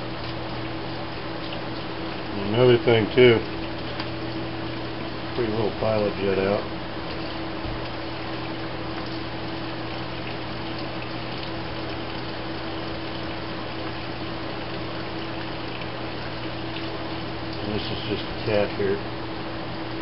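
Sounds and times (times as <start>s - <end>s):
pump humming: 0.0s - 20.0s.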